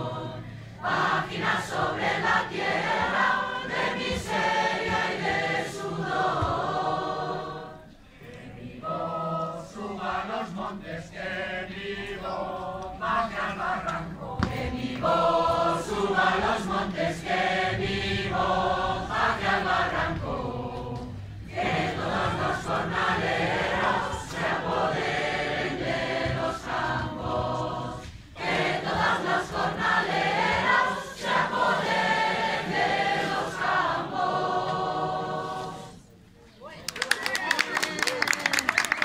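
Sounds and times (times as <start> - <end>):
mixed choir singing: 0.0 - 36.3.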